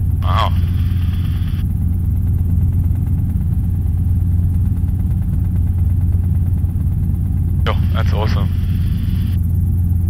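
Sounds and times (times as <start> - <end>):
helicopter engine and rotor drone: 0.0 - 10.0.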